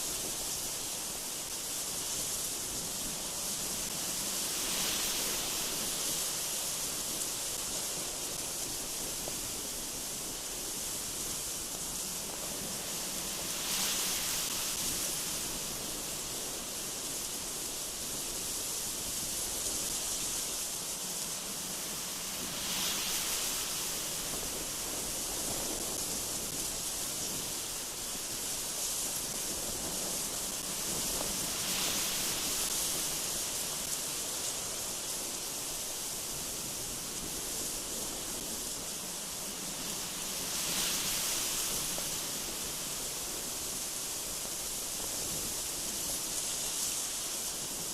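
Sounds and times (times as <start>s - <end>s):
gusty wind through trees: 0.0s - 47.9s.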